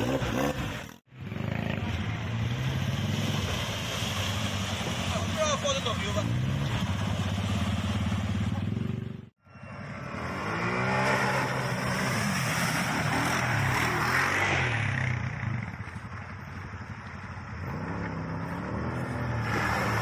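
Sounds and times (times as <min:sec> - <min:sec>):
off-road engines revving: 0:00.0 - 0:20.0.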